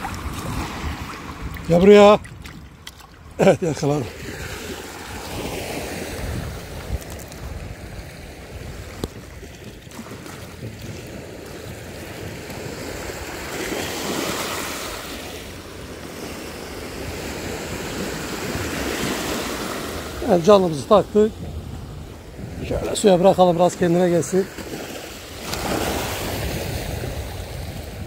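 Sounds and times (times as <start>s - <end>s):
waves washing over pebbles: 0.0s - 28.0s.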